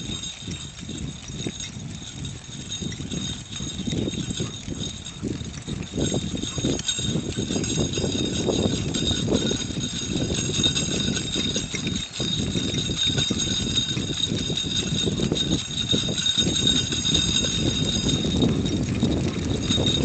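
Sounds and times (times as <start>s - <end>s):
cart wheels rolling over asphalt: 0.0s - 20.0s.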